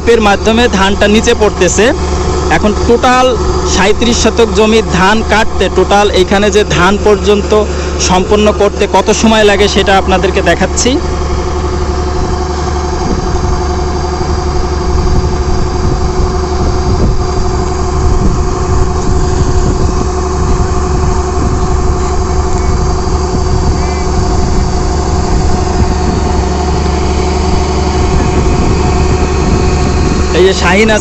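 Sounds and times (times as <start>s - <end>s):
unloading auger running: 0.0s - 30.9s
combine harvester engine: 0.0s - 31.0s.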